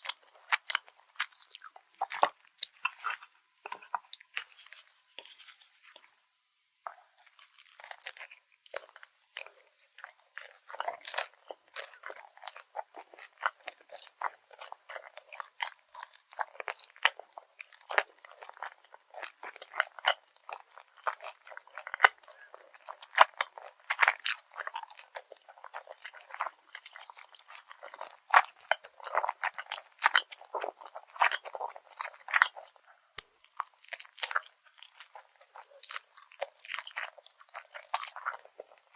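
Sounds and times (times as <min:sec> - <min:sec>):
chewing crunchy crust: 0:00.0 - 0:38.9.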